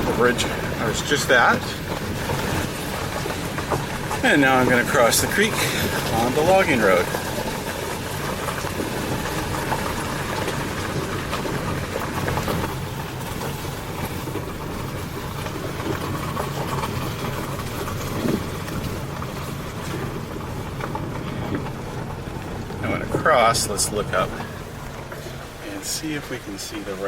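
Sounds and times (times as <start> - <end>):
car engine and tyre noise: 0.0 - 27.0
gravel clicks: 0.0 - 27.0.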